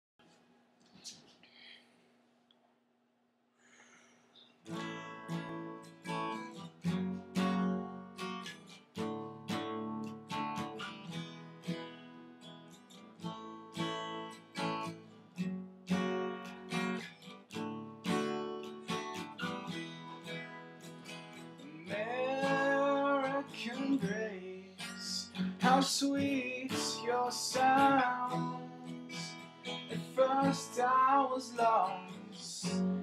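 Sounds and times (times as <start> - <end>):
acoustic guitar strumming chords: 4.7 - 33.0.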